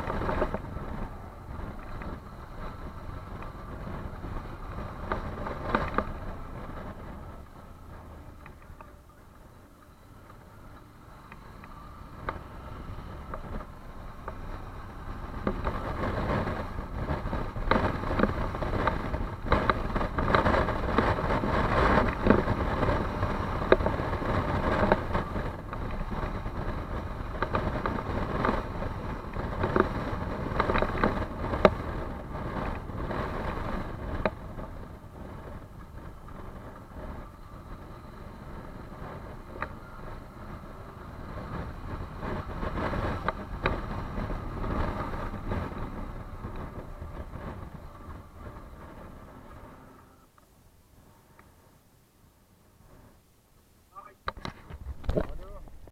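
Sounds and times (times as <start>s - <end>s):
engine at high throttle: 0.0s - 50.3s.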